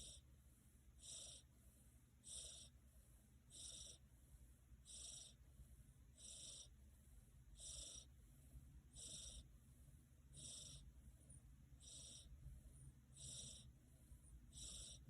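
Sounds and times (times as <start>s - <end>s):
cat snoring softly: 0.0s - 15.0s.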